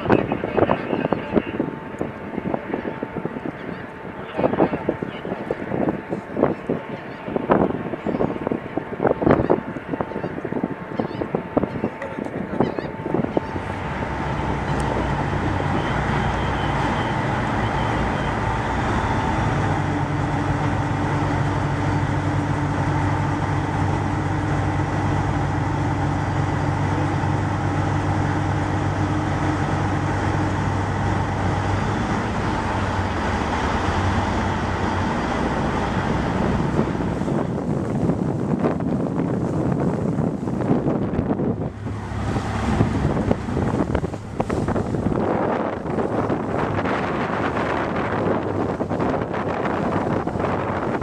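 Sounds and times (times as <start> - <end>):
ship machinery drone: 0.0 - 51.0.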